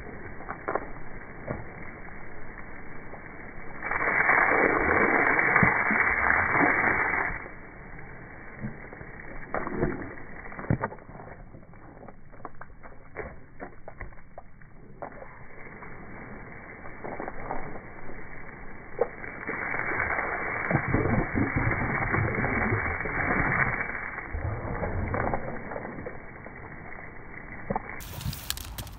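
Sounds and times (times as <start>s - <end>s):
water spraying from hose: 0.0s - 11.4s, 15.2s - 28.9s
water splashing on concrete: 0.0s - 28.9s.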